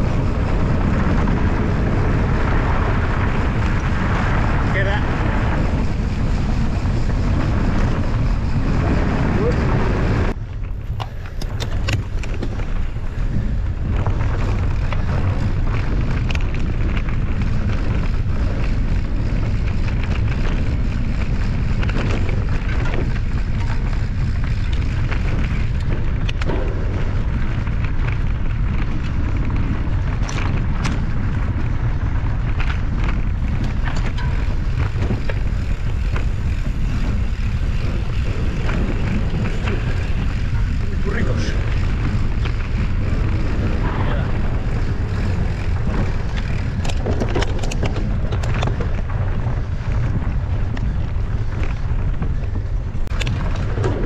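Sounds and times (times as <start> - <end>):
bike clicks and rattles: 0.0 - 54.0
wind rumble on microphone: 0.0 - 54.0.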